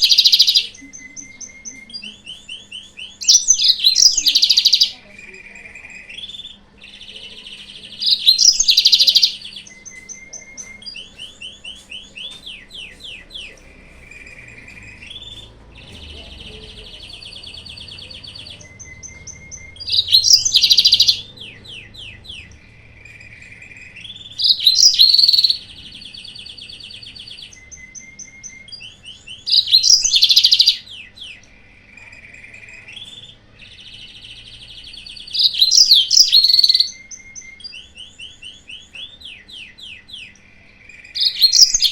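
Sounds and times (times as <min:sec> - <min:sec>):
canary song: 0:00.0 - 0:41.9
harsh burst of chatter: 0:00.0 - 0:41.9.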